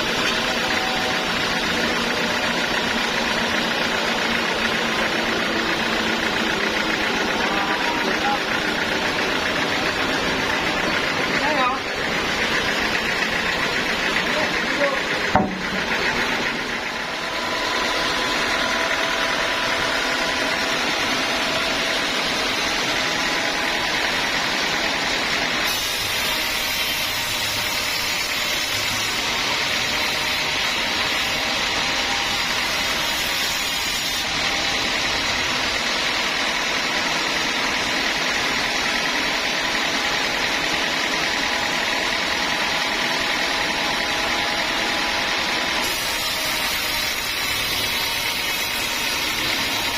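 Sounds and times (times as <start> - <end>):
band sawmill running: 0.0 - 49.9.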